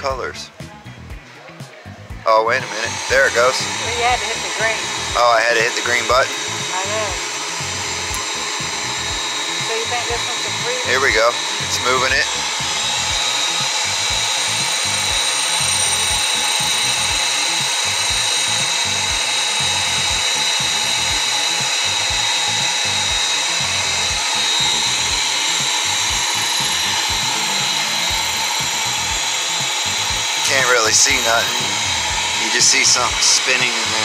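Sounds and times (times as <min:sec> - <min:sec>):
key cutting machine whining: 0:02.3 - 0:34.0.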